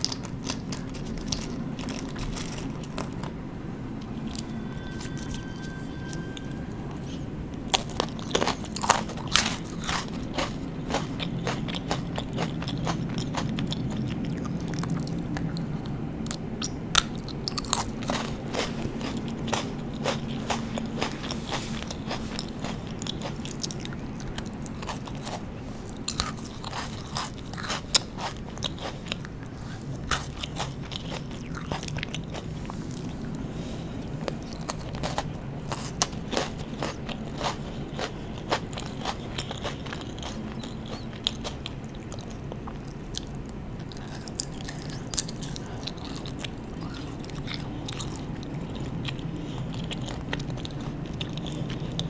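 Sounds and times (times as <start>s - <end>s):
crunchy biscuit sticks chewing: 0.0s - 52.0s.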